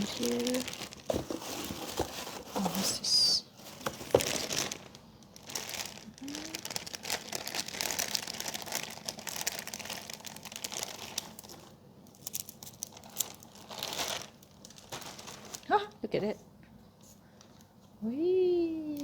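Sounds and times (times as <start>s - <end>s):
packaging rustling and crinkling: 0.0s - 16.0s.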